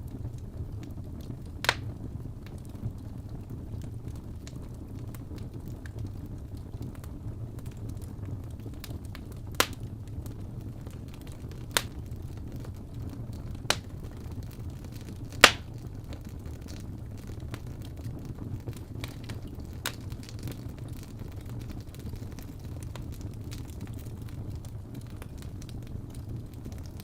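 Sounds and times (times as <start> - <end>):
wood fire crackling: 0.0 - 27.0
sharp pops of fire: 0.1 - 3.0, 7.6 - 27.0.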